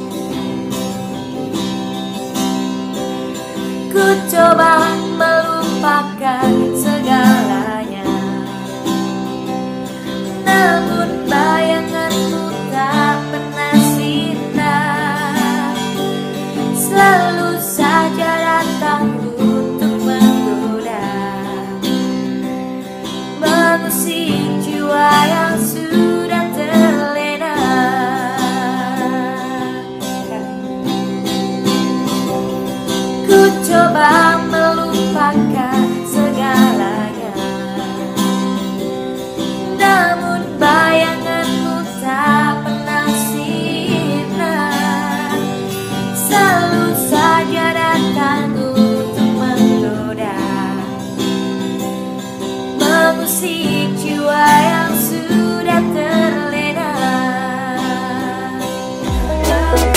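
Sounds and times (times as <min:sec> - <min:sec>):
strummed acoustic guitar: 0:00.0 - 0:59.9
woman singing with vibrato: 0:03.6 - 0:09.0, 0:10.0 - 0:22.4, 0:23.4 - 0:30.7, 0:33.2 - 0:38.4, 0:39.6 - 0:51.4, 0:52.8 - 0:59.9.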